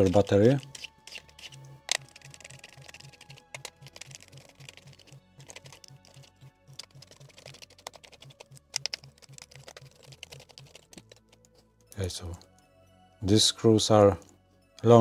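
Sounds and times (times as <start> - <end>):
background music with low beat: 0.0 - 15.0.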